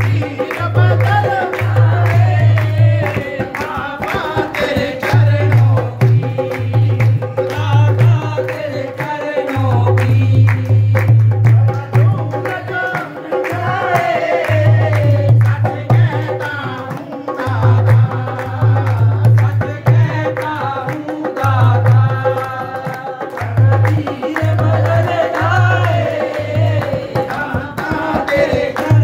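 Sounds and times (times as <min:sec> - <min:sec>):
drum accompaniment with bass beat: 0:00.0 - 0:29.0
hand-clapping: 0:00.0 - 0:29.0.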